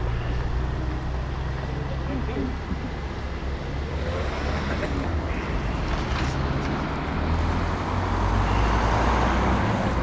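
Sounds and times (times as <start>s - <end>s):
lorry diesel engine rumbling: 0.0s - 10.0s.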